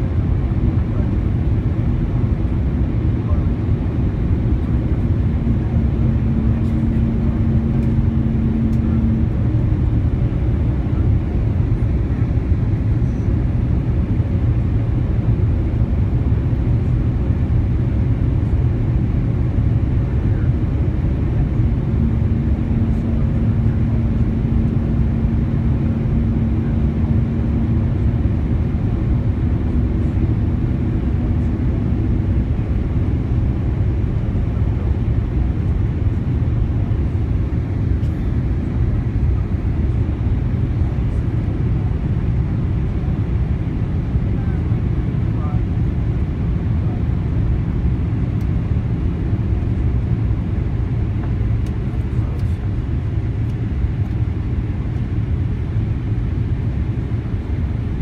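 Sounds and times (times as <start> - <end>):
airplane cabin rumble: 0.0 - 58.0
faint steady hum: 3.3 - 58.0.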